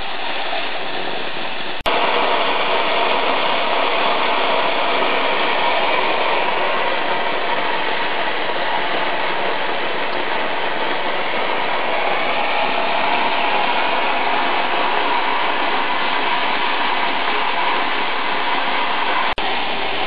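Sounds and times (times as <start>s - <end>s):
cutting torch hissing: 0.0s - 20.0s.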